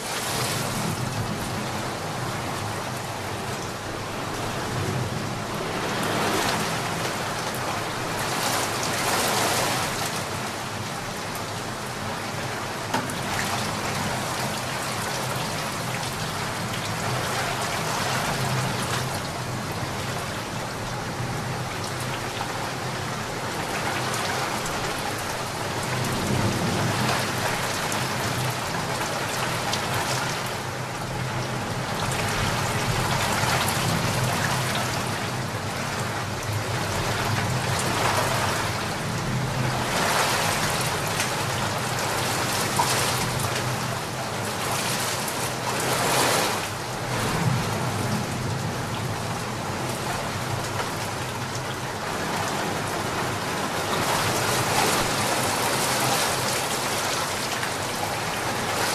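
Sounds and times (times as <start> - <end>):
rain falling on pond: 0.0 - 58.9.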